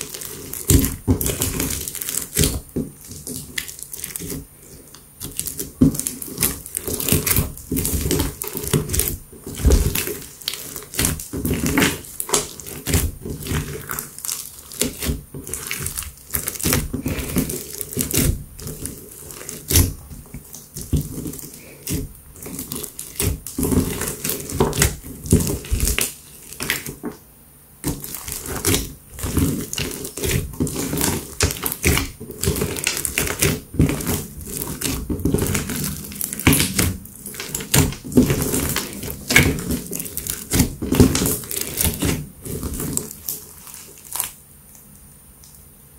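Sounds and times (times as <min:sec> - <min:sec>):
hands squelching beaded slime: 0:00.0 - 0:27.2, 0:27.8 - 0:44.4.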